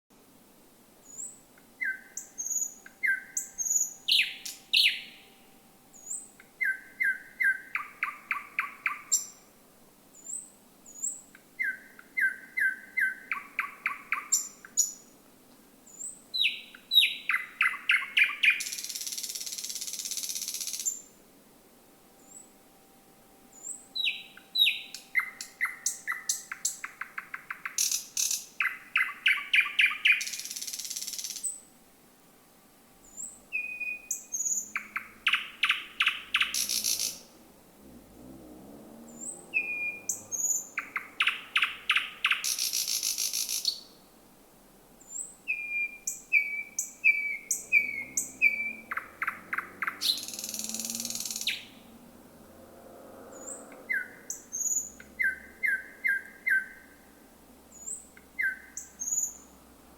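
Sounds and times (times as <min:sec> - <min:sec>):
nightingale singing: 0:01.0 - 0:09.5, 0:10.1 - 0:15.2, 0:15.8 - 0:21.2, 0:22.2 - 0:31.7, 0:33.0 - 0:37.4, 0:39.0 - 0:44.1, 0:45.0 - 0:52.0, 0:53.3 - 0:59.6.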